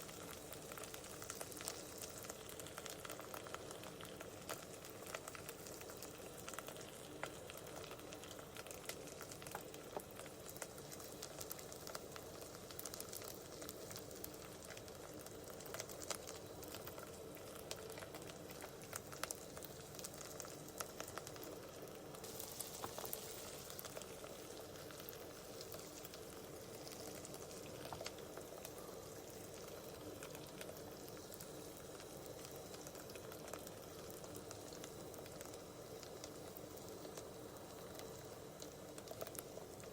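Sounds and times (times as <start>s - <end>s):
faint steady hum: 0.0s - 39.9s
food sizzling in a pan: 0.0s - 39.9s.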